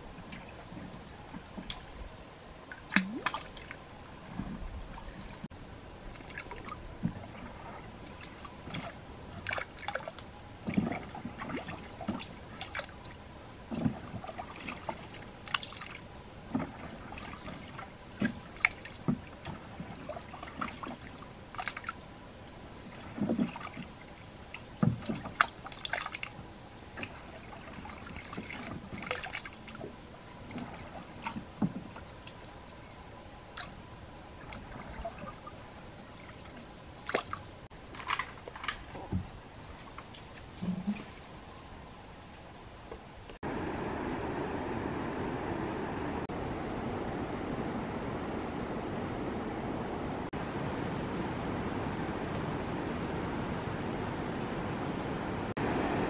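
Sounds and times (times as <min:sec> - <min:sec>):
faint high-pitched hum: 0:00.0 - 0:56.0
water splashing and sloshing: 0:00.0 - 0:56.0.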